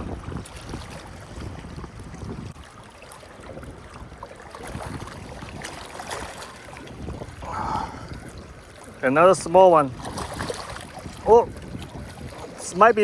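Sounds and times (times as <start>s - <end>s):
water lapping at shore: 0.0s - 13.0s
wind rumbling on microphone: 0.0s - 13.0s.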